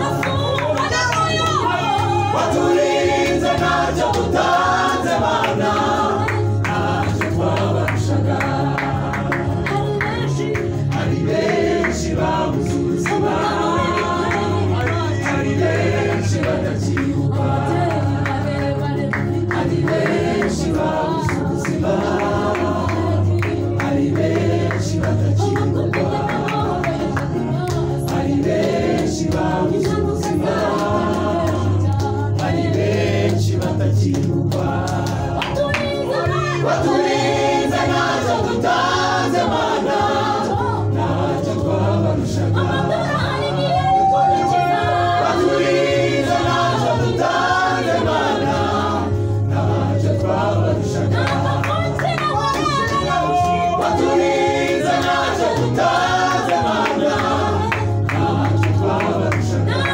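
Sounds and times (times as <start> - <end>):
gospel choir singing: 0.0 - 59.9.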